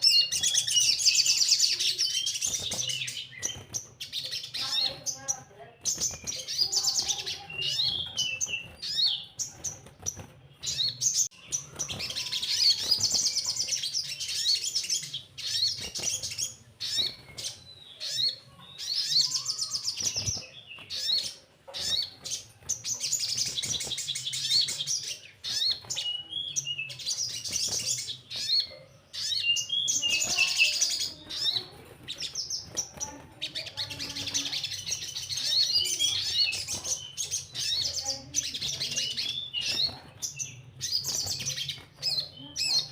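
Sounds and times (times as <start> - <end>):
bird singing trilled phrases: 0.0 - 42.9.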